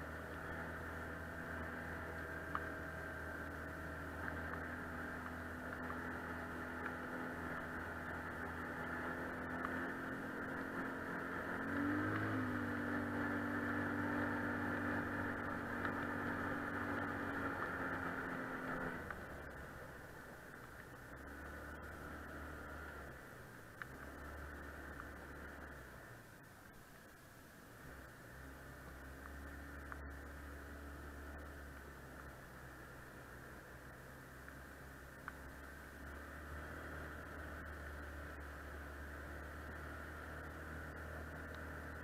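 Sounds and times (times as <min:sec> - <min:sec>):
atv engine running: 0:00.0 - 0:42.0.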